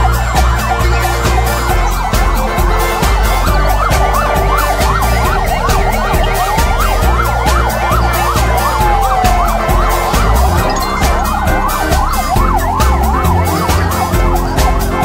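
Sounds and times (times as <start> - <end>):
ambulance sirens yelping: 0.0 - 15.0
siren wail: 0.0 - 15.0.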